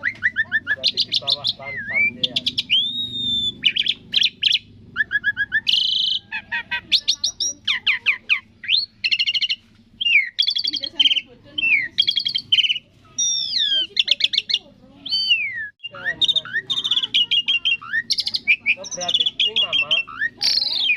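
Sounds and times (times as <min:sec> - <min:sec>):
starling singing: 0:00.0 - 0:20.9.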